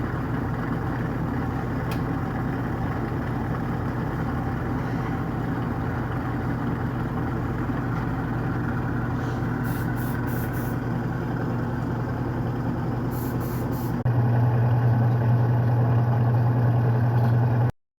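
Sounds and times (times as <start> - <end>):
washing machine spinning hum: 0.0 - 17.7.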